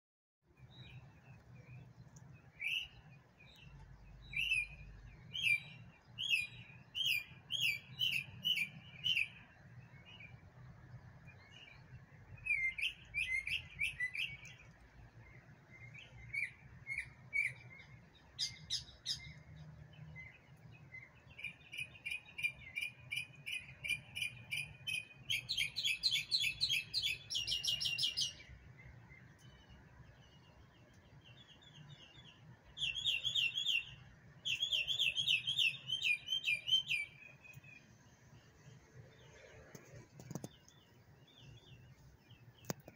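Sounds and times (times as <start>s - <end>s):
songbird chirping: 0.5s - 42.9s.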